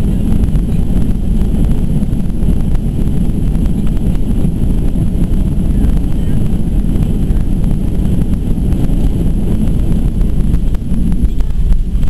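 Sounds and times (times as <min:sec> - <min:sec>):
jet engines rumbling: 0:00.0 - 0:12.0
rushing air: 0:00.0 - 0:12.0.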